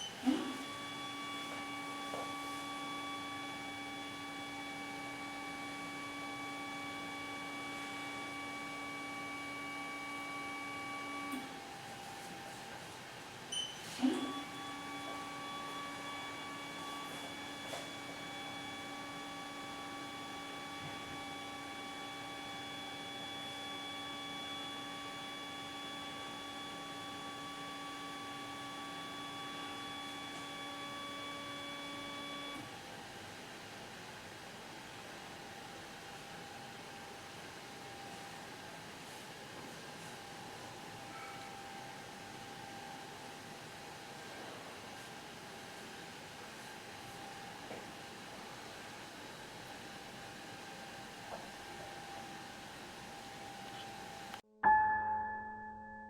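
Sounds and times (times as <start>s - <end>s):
furnace humming: 0.0s - 54.5s.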